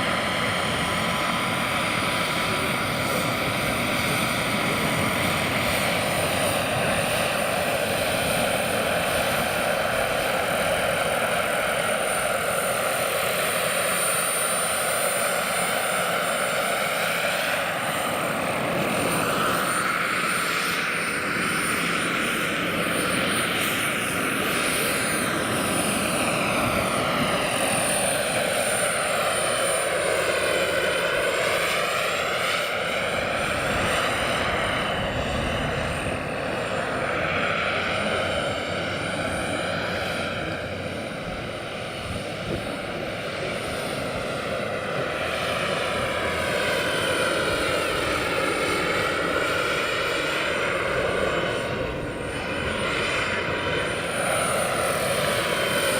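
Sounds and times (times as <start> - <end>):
model helicopter turbine and rotor: 0.0 - 55.9.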